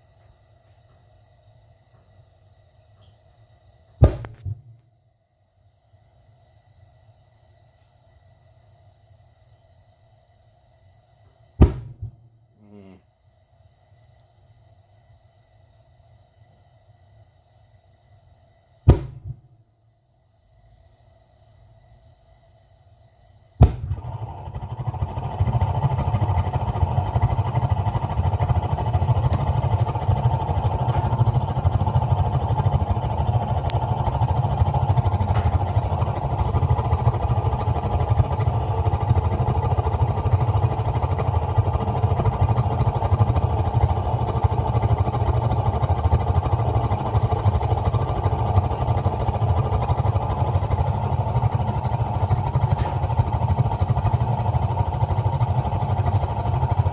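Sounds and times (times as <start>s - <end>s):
gas burner igniting whoosh: 0.0s - 5.0s, 6.0s - 12.4s, 13.7s - 19.7s, 20.5s - 56.9s
flame rushing steadily: 0.0s - 56.9s.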